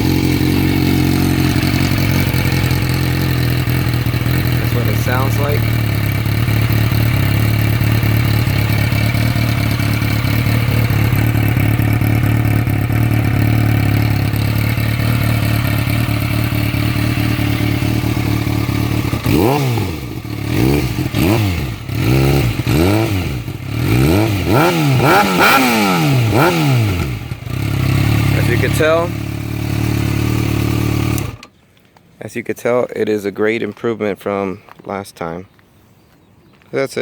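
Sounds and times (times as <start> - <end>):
engine revving in throttle blips: 0.0 - 31.5
motorcycle engine idling: 0.0 - 31.6.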